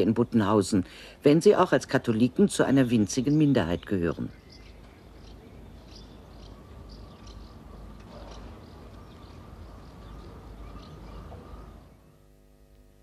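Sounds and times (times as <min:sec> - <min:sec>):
low background noise: 0:00.0 - 0:13.0
small birds chirping: 0:01.7 - 0:12.2.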